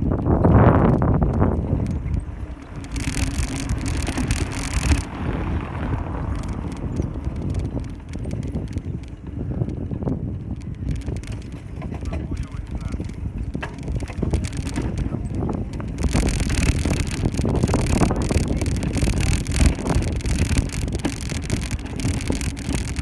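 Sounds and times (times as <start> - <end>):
bicycle tyre and road rumble: 0.0 - 23.0
wind buffeting microphone: 0.0 - 23.0.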